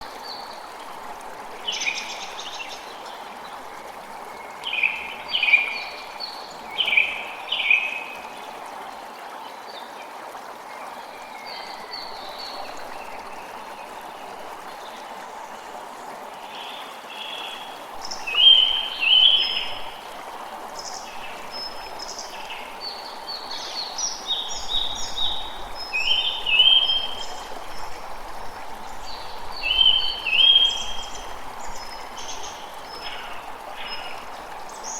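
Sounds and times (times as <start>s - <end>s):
flowing water rushing: 0.0s - 34.9s
songbirds chirping: 0.2s - 34.9s.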